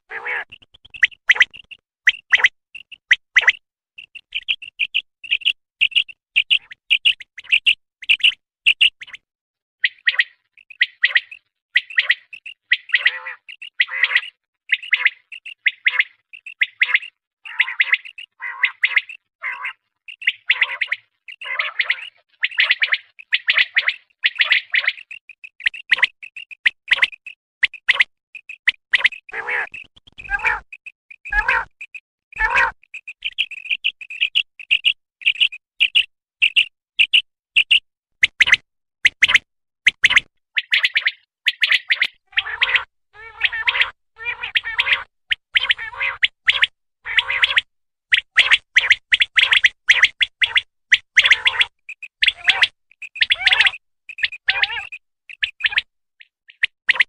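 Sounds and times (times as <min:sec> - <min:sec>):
quail calling: 0:00.0 - 0:03.2, 0:09.8 - 0:26.2, 0:27.8 - 0:31.8, 0:32.4 - 0:37.8, 0:38.4 - 0:57.0.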